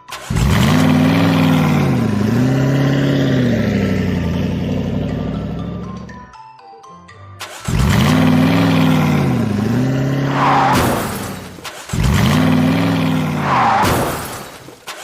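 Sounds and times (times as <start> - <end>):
engine revving: 0.0 - 6.2, 7.4 - 15.0.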